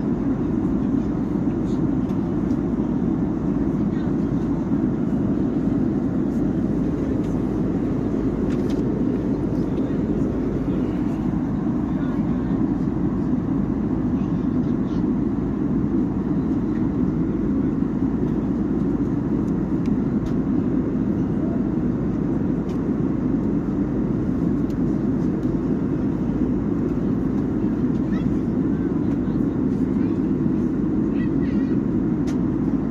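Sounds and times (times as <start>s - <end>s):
airliner cabin engine rumble: 0.0s - 32.9s.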